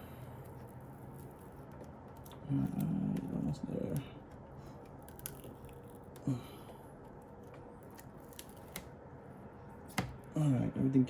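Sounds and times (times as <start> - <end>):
tape peeling with faint crackling: 0.4 - 10.4.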